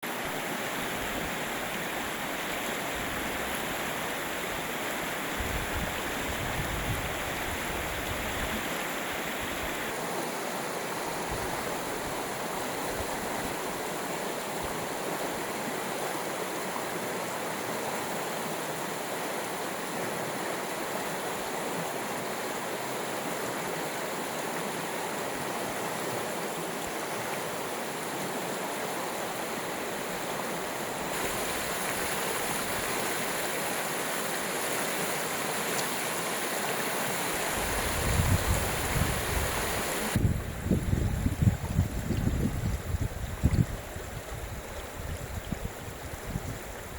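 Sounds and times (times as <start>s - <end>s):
stream running over stones: 0.0s - 46.9s.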